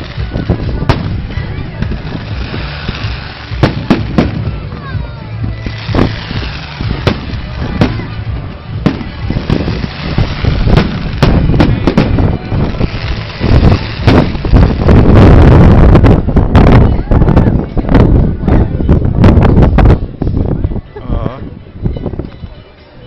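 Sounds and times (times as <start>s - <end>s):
fireworks bangs and crackles: 0.0s - 20.4s
low rumble: 0.0s - 20.8s.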